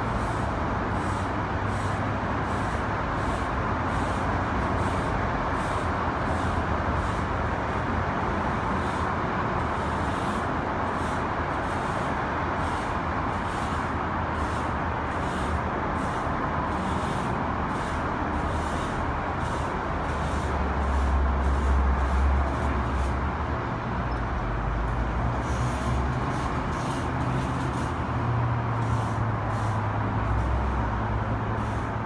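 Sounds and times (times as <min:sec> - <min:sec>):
city traffic hum: 0:00.0 - 0:32.0.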